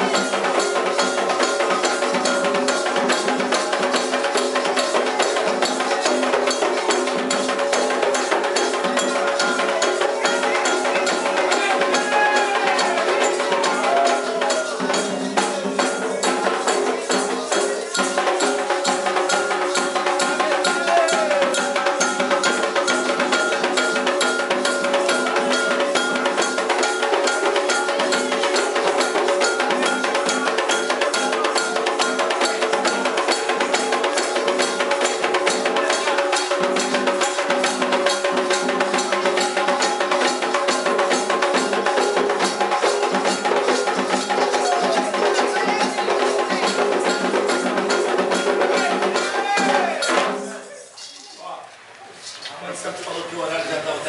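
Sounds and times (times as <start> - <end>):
drums and percussion: 0.0 - 54.0.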